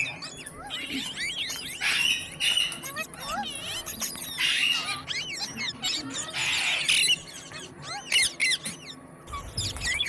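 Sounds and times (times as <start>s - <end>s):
parrot chirping and squawking: 0.0s - 10.0s.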